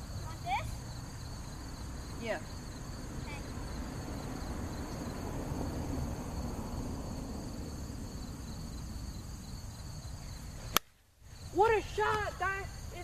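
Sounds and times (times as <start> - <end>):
low wind rumble: 0.0 - 10.7
insects chirping: 0.0 - 13.0.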